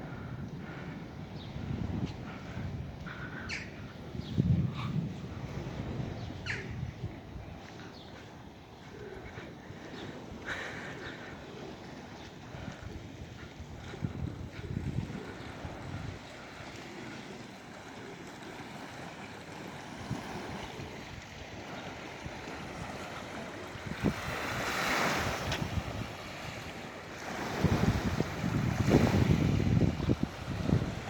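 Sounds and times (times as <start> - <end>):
sea waves washing ashore: 0.0 - 31.0
wind gusts on microphone: 0.0 - 31.0.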